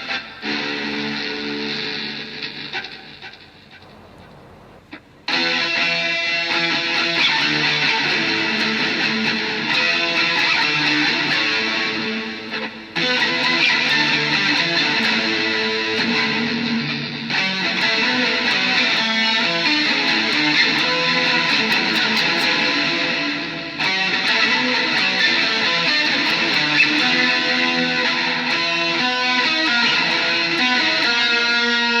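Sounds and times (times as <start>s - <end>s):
guitar strumming: 0.0s - 32.0s.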